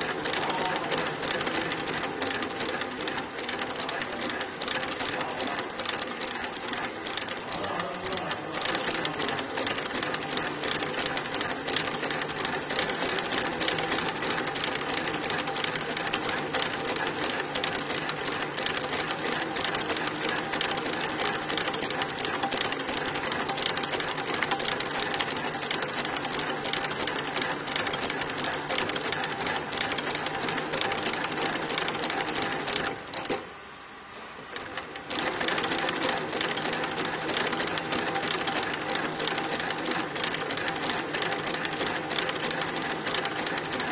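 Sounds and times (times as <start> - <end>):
stitching machine clatter: 0.0 - 33.5, 34.4 - 43.9.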